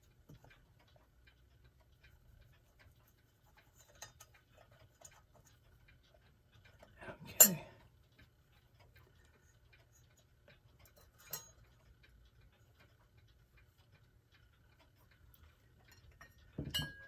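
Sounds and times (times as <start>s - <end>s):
faint light ticking and clicks: 0.0s - 17.0s.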